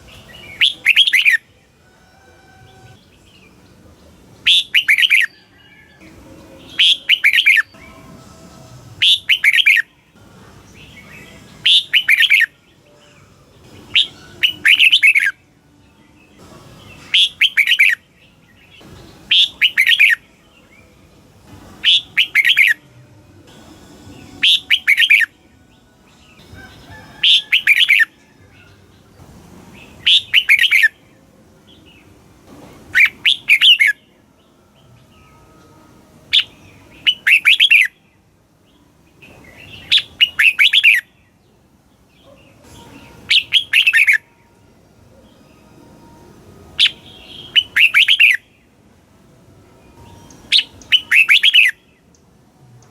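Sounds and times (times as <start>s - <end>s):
bird singing warbled phrases: 0.0s - 1.6s, 2.8s - 8.4s, 9.0s - 21.1s, 21.8s - 22.9s, 24.1s - 32.2s, 32.9s - 35.6s, 36.3s - 45.8s, 46.7s - 48.8s, 49.9s - 52.9s.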